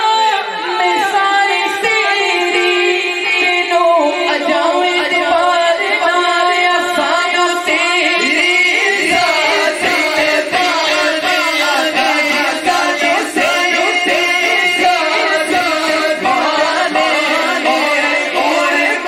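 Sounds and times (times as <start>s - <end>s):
men singing through sound system: 0.0s - 19.0s.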